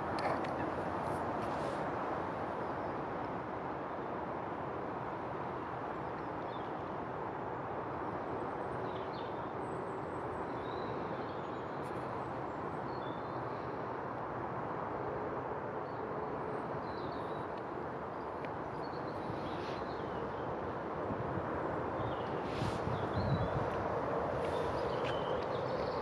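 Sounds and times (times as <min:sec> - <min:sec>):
steady outdoor roar: 0:00.0 - 0:26.0.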